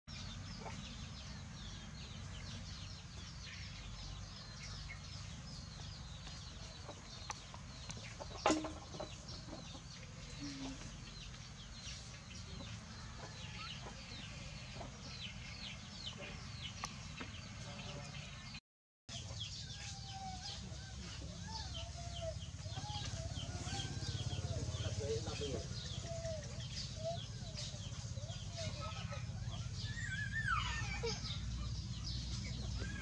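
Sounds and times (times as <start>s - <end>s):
birds chirping: 0.1s - 33.0s.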